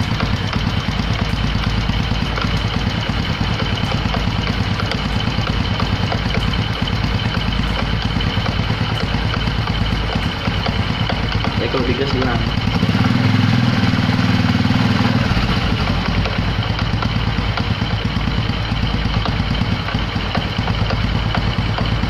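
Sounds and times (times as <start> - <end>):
motorcycle engine idling with rattle: 0.0 - 22.0.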